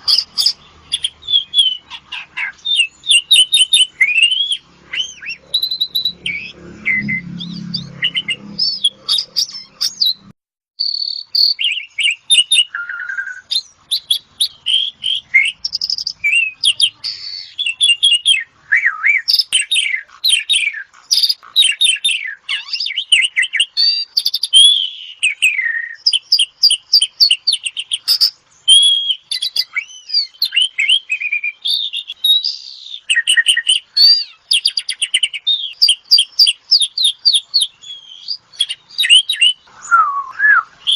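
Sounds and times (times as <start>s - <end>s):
starling singing whistles and trills: 0.0s - 40.9s.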